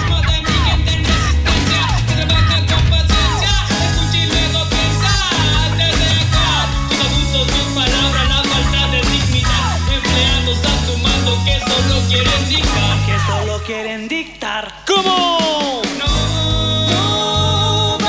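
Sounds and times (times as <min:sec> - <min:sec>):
bass line: 0:00.0 - 0:13.8, 0:16.1 - 0:18.0
rap rock instrumental beat: 0:00.0 - 0:18.0.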